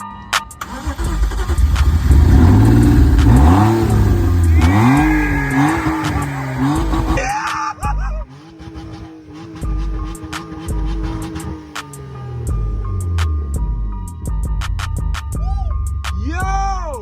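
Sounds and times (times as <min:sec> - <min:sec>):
car engine revving: 0:00.6 - 0:15.0.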